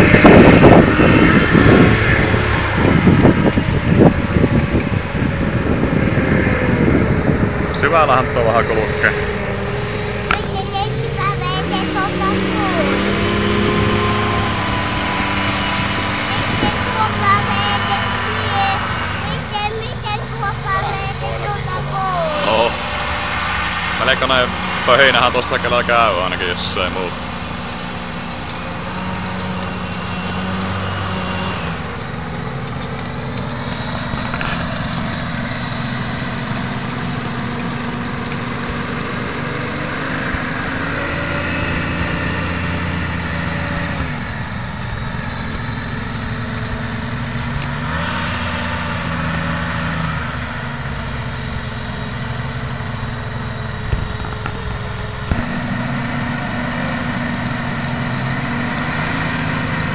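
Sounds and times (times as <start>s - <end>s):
hovercraft engine and fan buzz: 0.0s - 59.9s.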